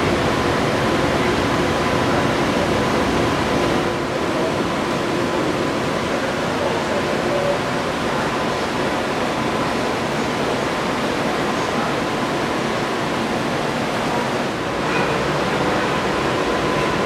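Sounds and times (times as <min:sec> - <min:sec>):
ventilation air rushing: 0:00.0 - 0:17.0.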